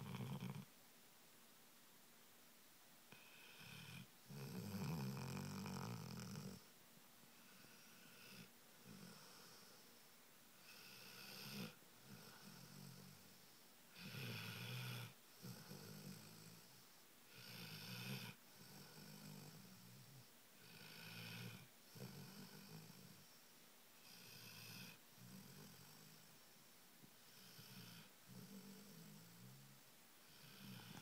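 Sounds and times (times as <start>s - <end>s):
dog snoring: 0.0s - 0.7s, 3.1s - 6.7s, 7.4s - 9.9s, 10.6s - 23.4s, 24.0s - 26.5s, 27.2s - 31.0s.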